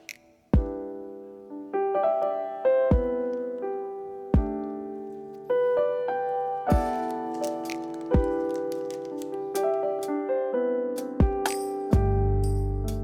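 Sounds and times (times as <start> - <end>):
mellow electric piano chords: 0.0 - 13.0.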